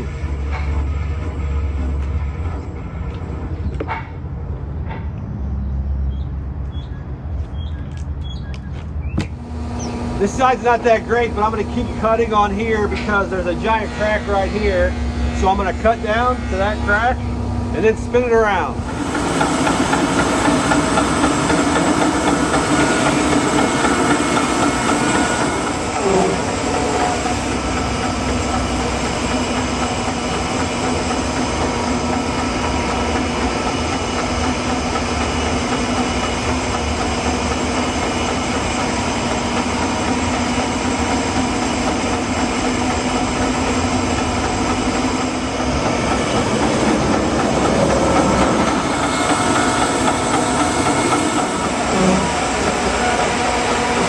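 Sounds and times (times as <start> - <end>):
sawmill engine under load: 0.0 - 4.2, 9.2 - 54.0.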